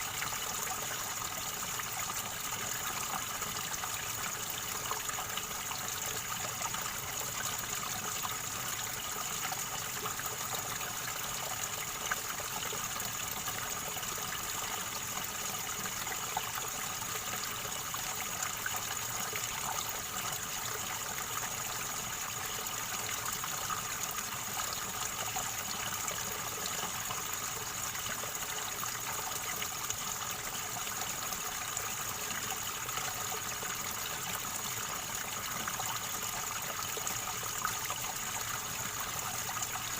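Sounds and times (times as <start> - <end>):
river water gurgling: 0.0 - 39.9.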